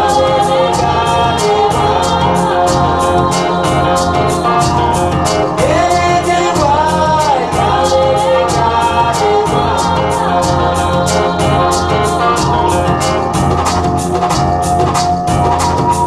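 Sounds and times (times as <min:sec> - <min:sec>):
choir singing gospel music: 0:00.0 - 0:16.0
high ticking beat: 0:00.0 - 0:16.0
steady bass: 0:00.0 - 0:16.0.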